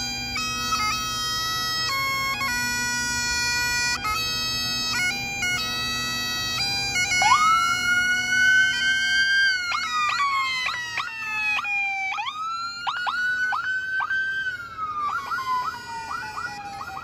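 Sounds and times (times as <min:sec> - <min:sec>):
bagpipes playing a tune: 0:00.0 - 0:17.0
police siren wailing: 0:00.0 - 0:17.0.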